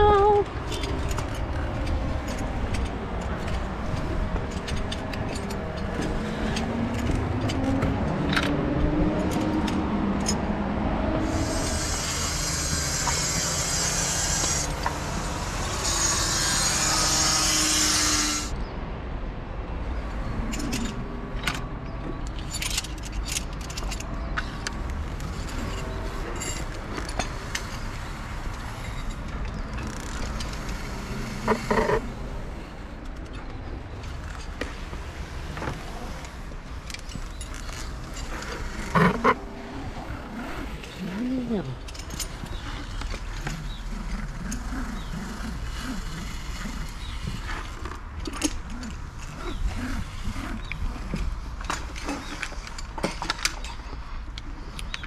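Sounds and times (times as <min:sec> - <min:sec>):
city traffic rumble: 0:00.0 - 0:55.0.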